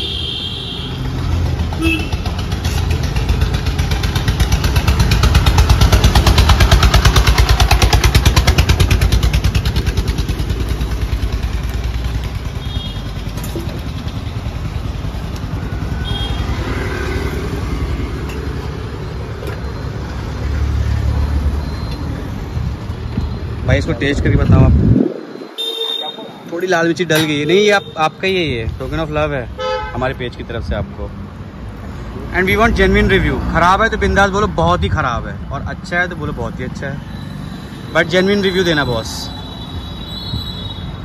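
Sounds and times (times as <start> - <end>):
street traffic noise: 0.0 - 41.0.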